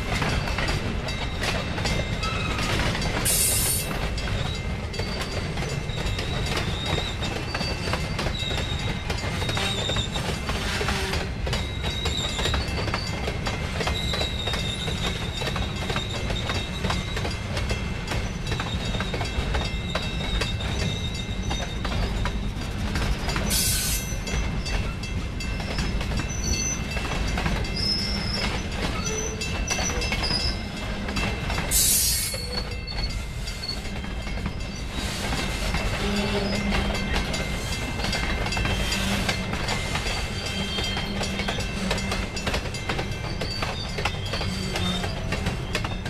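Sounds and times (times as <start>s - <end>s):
freight train rumble: 0.0s - 46.0s
train wheels clacking over rail joints: 0.0s - 46.0s
high wheel squeals: 2.1s - 17.4s, 18.0s - 22.6s, 23.2s - 46.0s.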